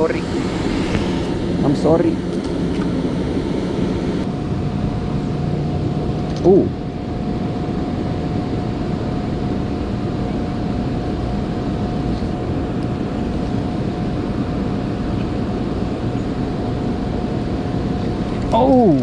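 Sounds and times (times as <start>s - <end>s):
thin steady hum: 0.0s - 19.0s.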